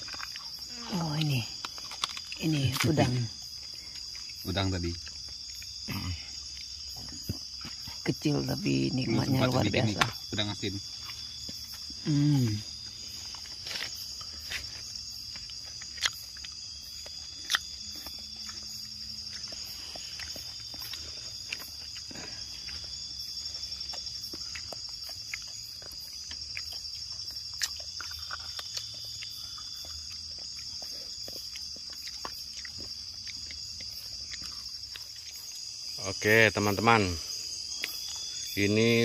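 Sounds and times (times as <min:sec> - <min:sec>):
night insects trilling: 0:00.0 - 0:39.0.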